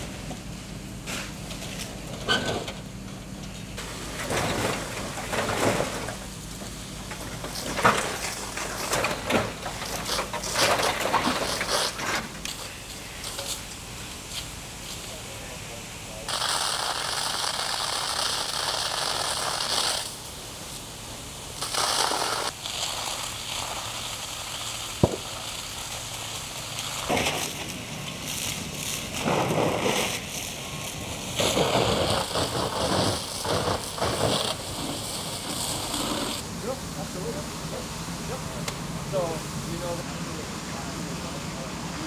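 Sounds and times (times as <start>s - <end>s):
burning timbers crackling: 0.0s - 42.0s
rush of flame: 3.8s - 42.0s.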